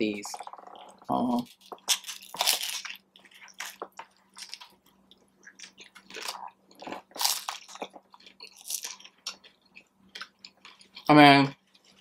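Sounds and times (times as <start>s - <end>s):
chewing crunchy taco shell: 0.3s - 12.0s.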